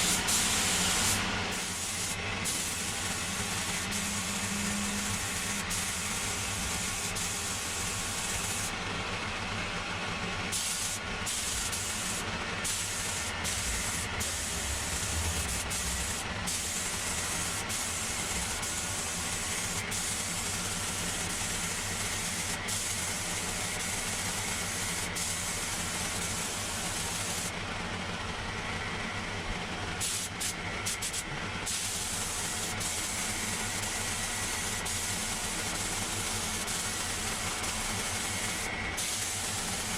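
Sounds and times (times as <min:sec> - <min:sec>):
compressed air hissing: 0:00.0 - 0:08.7, 0:10.5 - 0:27.5, 0:30.0 - 0:39.9
air compressor humming: 0:00.0 - 0:09.6, 0:10.3 - 0:27.6, 0:30.0 - 0:39.9.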